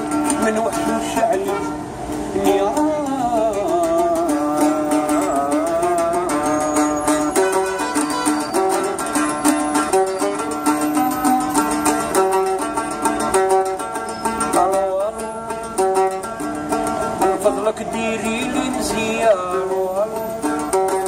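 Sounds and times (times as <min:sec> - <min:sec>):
plucked lute melody: 0:00.0 - 0:21.0.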